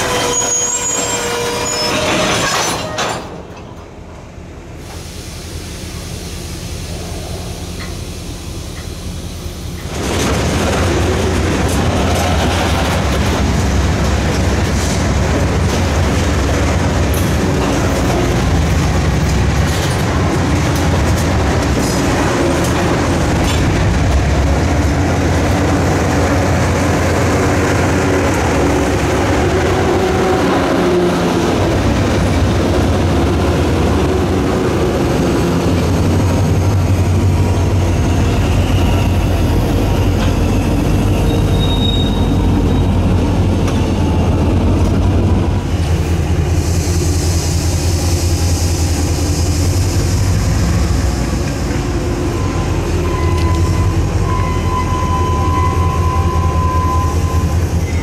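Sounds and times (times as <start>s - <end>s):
diesel locomotives passing: 0.0s - 58.0s
freight train rumbling past: 0.0s - 58.0s.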